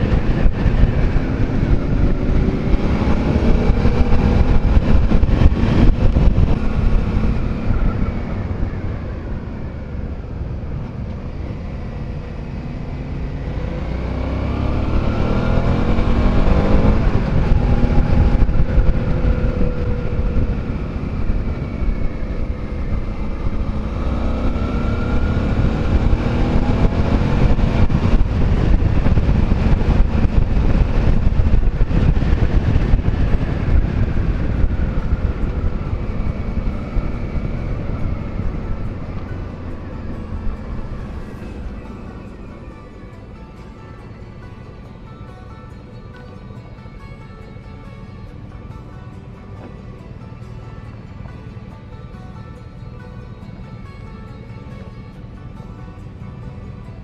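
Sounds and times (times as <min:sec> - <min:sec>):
motorcycle engine revving: 0:00.0 - 0:46.2.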